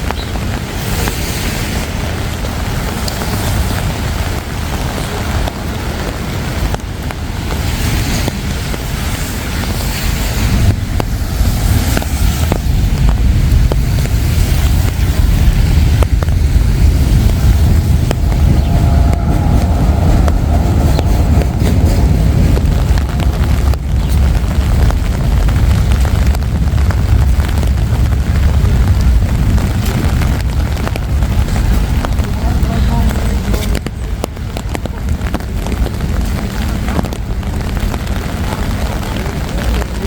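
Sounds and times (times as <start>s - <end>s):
road traffic rumble: 0.0s - 40.0s
wind on microphone: 0.0s - 40.0s.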